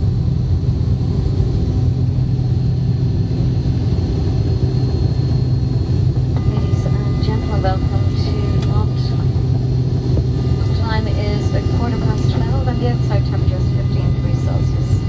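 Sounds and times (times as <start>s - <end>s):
airliner cabin rumble: 0.0s - 15.0s
faint high whine: 2.8s - 15.0s.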